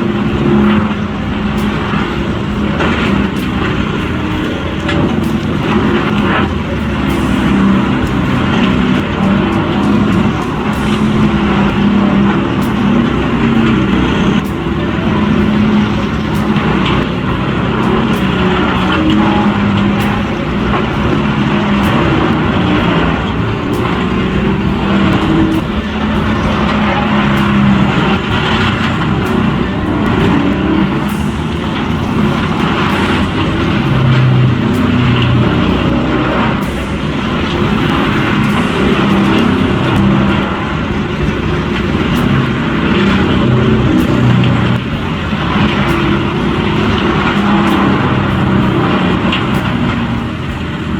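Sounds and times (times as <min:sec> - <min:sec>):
heavy machine engine running: 0:00.0 - 0:50.9.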